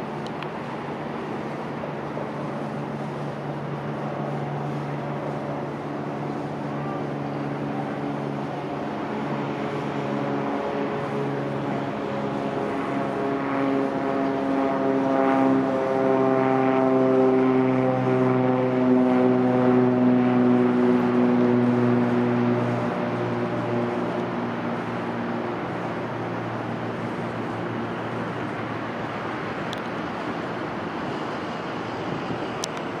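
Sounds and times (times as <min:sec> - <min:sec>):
propeller plane engine drone: 0:00.0 - 0:33.0
steady rushing noise: 0:00.0 - 0:33.0.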